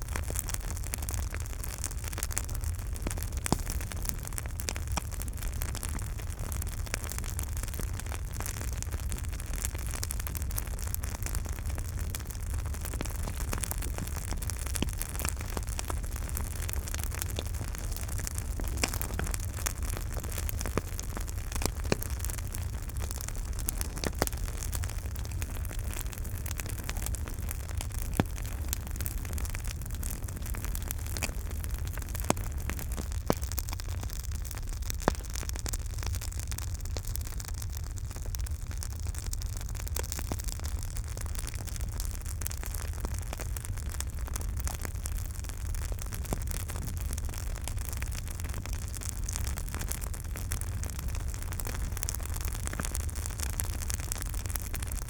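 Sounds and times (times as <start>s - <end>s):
burning wood crackling and popping: 0.0s - 55.0s
campfire flames rumbling and hissing: 0.0s - 55.0s.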